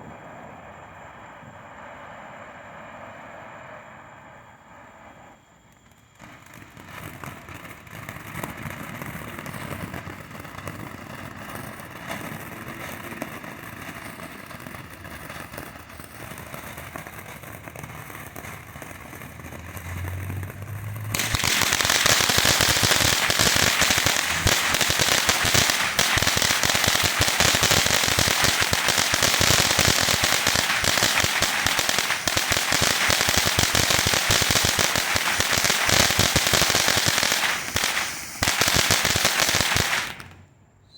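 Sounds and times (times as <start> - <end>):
firework fountain hissing: 0.0 - 40.5
dense firework crackle: 0.0 - 40.6.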